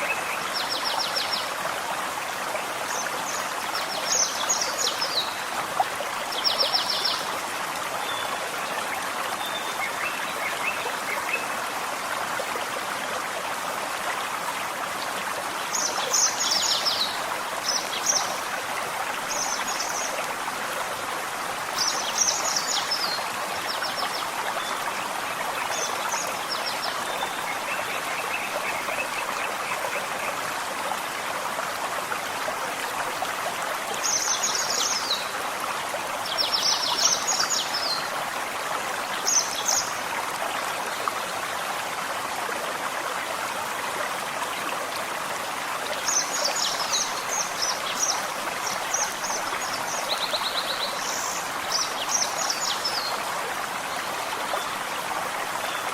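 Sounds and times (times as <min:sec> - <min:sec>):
stream trickling over stones: 0:00.0 - 0:55.9.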